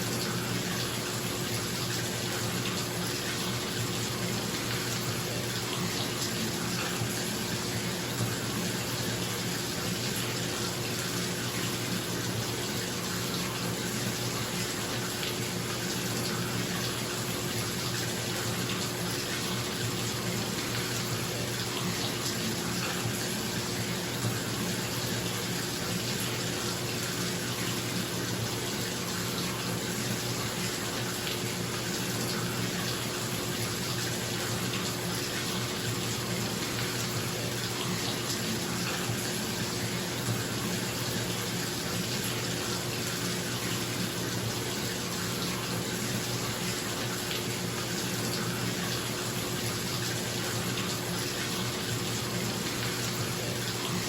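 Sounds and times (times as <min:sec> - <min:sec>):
tap water pouring into tub: 0:00.0 - 0:54.0.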